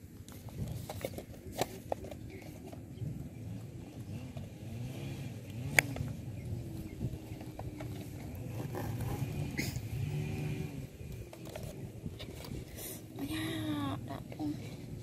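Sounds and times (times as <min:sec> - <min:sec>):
engine running: 0:00.8 - 0:13.3.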